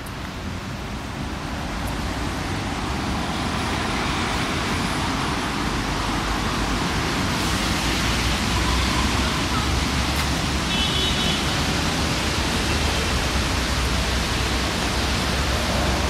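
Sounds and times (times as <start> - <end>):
road traffic hiss: 0.0 - 16.0.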